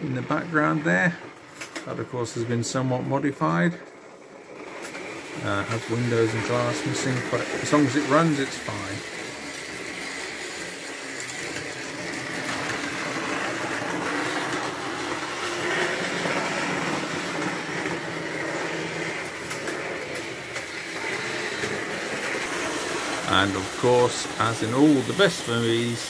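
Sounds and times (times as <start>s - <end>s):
model train whirring on track: 0.0s - 26.0s.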